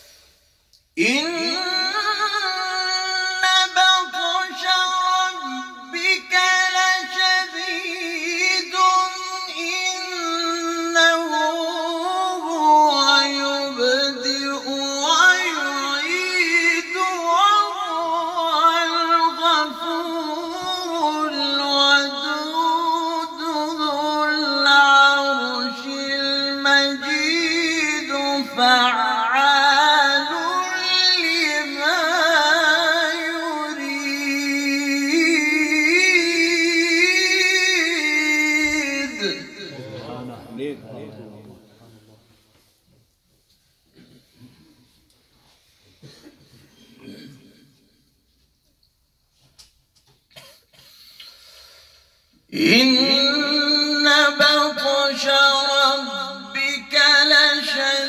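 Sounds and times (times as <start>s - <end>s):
man reciting melodically: 0.8s - 42.6s, 52.4s - 58.0s.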